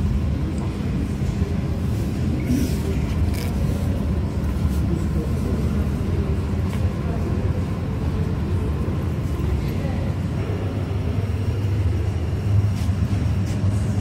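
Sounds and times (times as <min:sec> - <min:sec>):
murmur of voices: 0:00.0 - 0:14.0.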